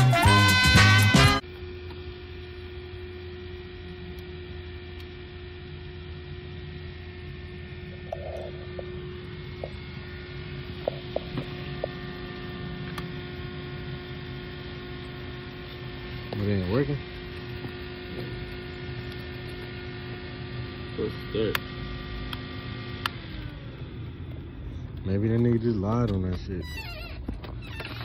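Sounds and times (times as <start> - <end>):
electrical hum: 0.0 - 28.0.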